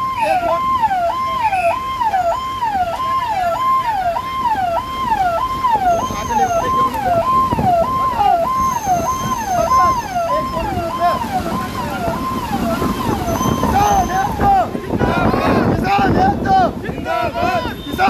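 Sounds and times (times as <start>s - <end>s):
electronic siren wailing: 0.0s - 15.7s
traffic rumble: 0.0s - 18.0s.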